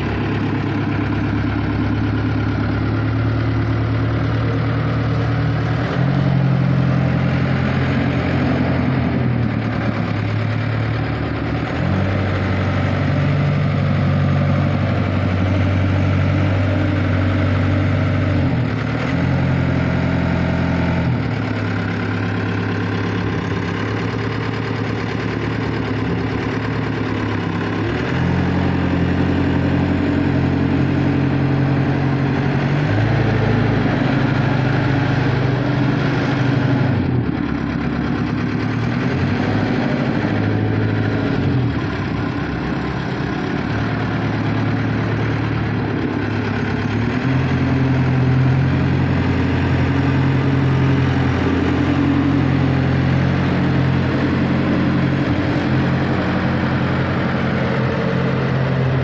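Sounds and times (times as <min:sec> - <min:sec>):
skid steer loader engine running: 0:00.0 - 0:59.0.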